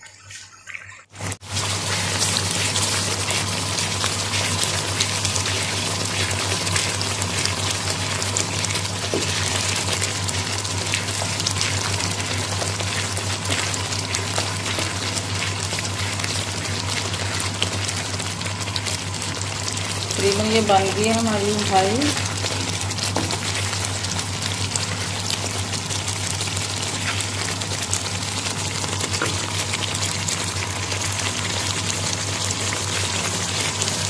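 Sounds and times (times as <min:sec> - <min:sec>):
milk mixture boiling and bubbling: 0:00.0 - 0:34.0.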